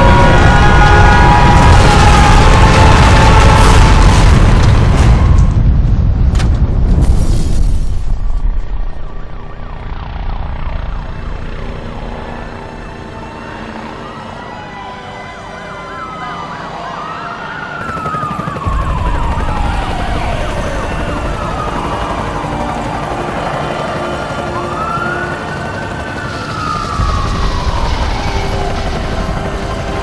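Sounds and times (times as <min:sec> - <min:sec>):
sirens wailing and yelping: 0:00.0 - 0:05.7, 0:09.4 - 0:30.0.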